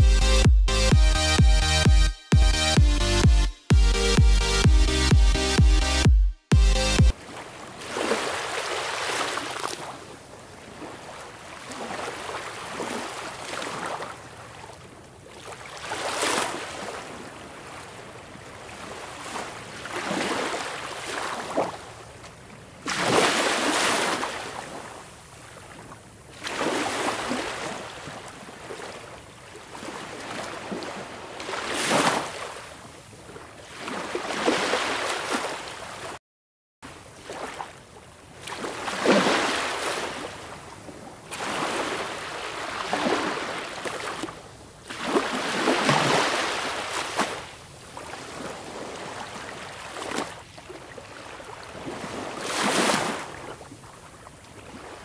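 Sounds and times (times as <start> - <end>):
sea waves breaking: 7.1 - 14.8, 15.4 - 22.2, 22.8 - 36.2, 37.1 - 53.8.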